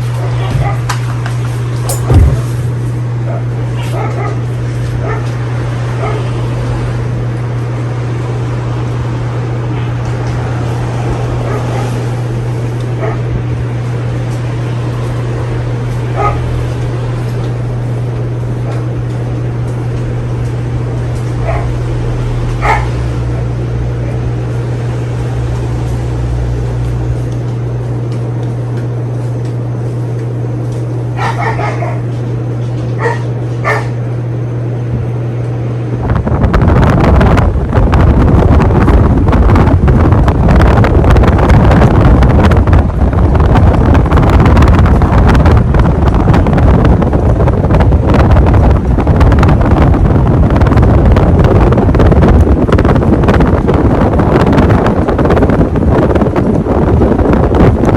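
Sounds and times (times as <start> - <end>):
ceiling fan motor humming: 0.0 - 57.9
fan blades rushing: 0.0 - 57.9.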